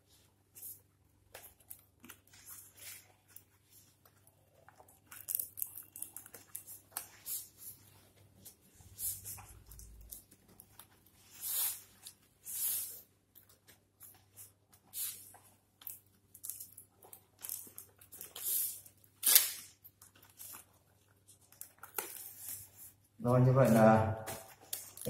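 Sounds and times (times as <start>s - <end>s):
leaf wrapping rasping and crackling: 0.0s - 25.0s.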